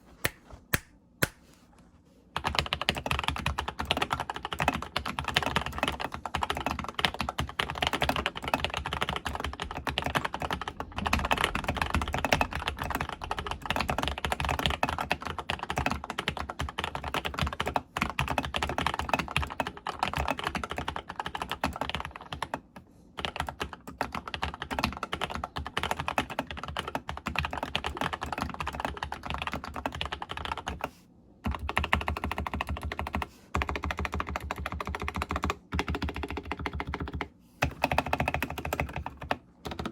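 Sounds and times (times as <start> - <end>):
mechanical keyboard typing: 2.4 - 39.9.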